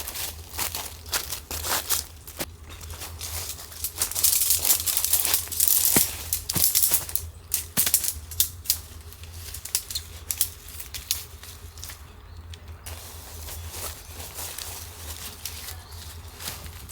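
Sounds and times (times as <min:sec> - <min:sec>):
rustling: 0:00.0 - 0:16.9.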